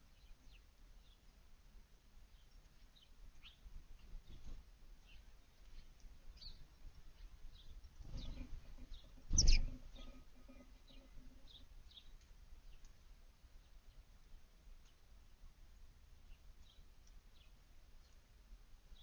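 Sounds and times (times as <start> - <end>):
small birds chirping: 0.0 - 1.5, 2.2 - 19.0.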